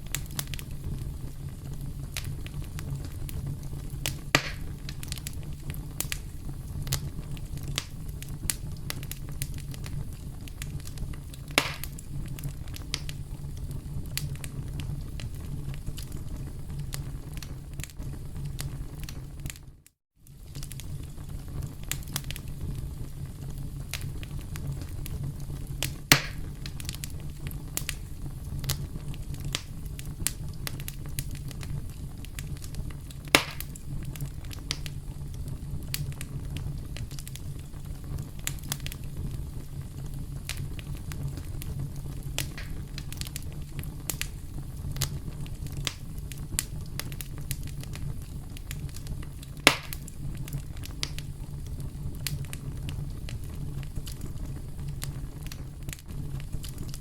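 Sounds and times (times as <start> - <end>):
campfire flames rumbling: 0.0 - 57.0
fire crackling and popping: 0.0 - 57.0.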